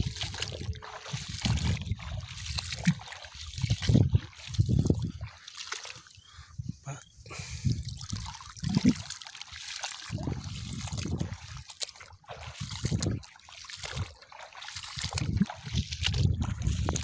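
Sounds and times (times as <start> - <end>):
water sloshing and trickling: 0.0 - 17.0.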